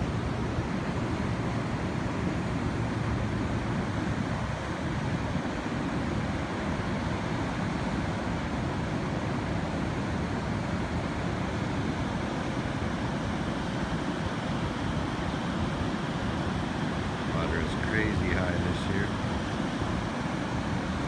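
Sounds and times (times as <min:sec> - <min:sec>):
whitewater rushing: 0:00.0 - 0:21.0.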